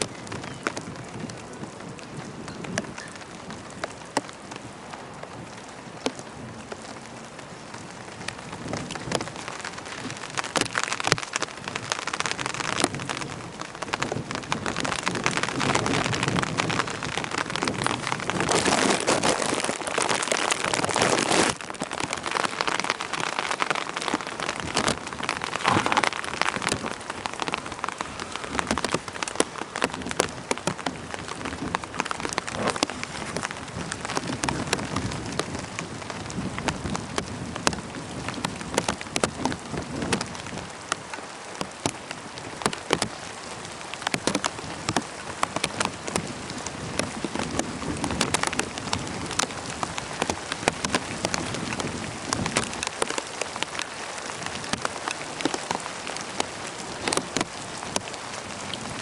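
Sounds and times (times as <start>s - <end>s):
heavy rain on hard surfaces: 0.0s - 59.0s.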